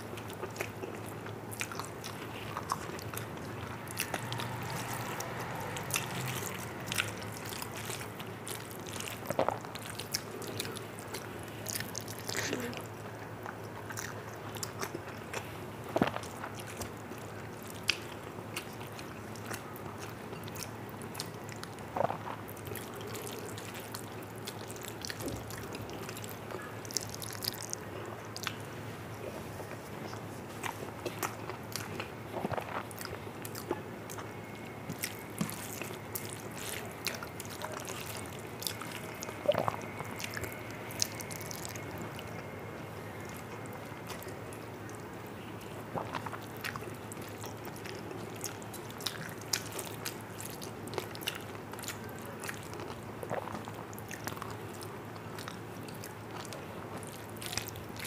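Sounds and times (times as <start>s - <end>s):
person chewing with lip smacks: 0.1s - 28.6s, 29.7s - 58.0s.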